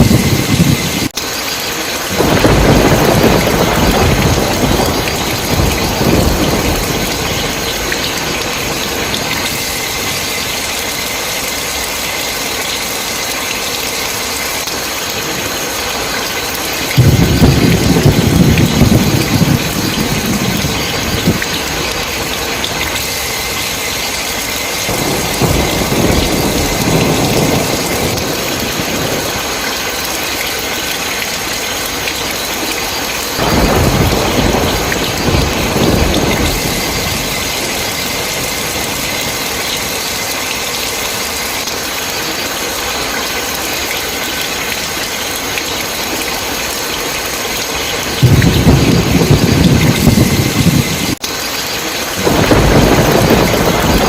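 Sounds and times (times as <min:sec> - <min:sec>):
thunder rumbling: 0:00.0 - 0:43.6, 0:44.2 - 0:54.0
heavy rain: 0:00.0 - 0:54.0.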